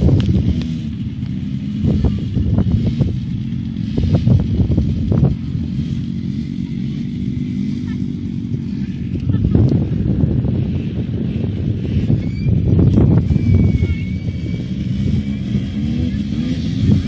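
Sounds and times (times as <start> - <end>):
atv engines running: 0.0 - 17.0.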